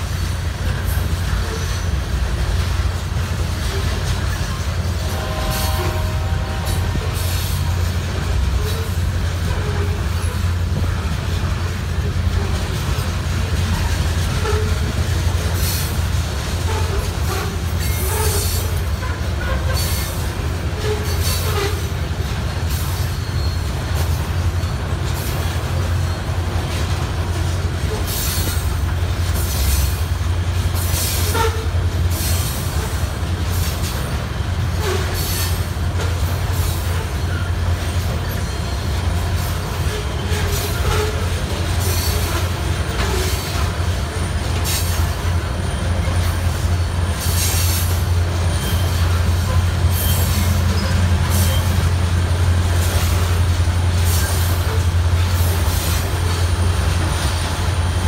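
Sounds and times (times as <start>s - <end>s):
freight train wheels rumbling: 0.0s - 58.0s
wheels squealing and clicking: 0.1s - 2.0s, 3.2s - 5.0s, 6.9s - 58.0s.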